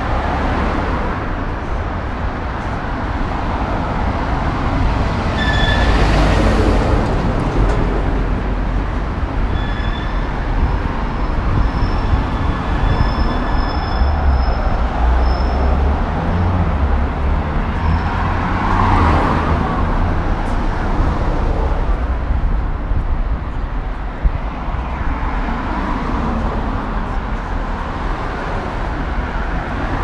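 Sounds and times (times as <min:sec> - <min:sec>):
city traffic passing: 0:00.0 - 0:30.0.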